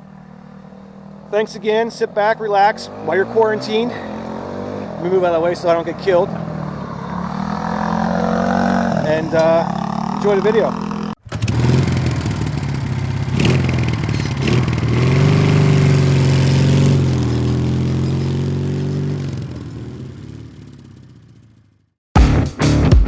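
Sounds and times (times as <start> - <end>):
atv engine running and revving: 2.4 - 21.9.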